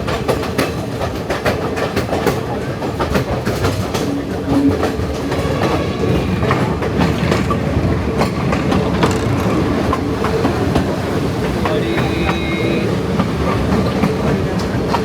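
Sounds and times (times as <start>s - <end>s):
train wheels clattering: 0.0s - 15.0s.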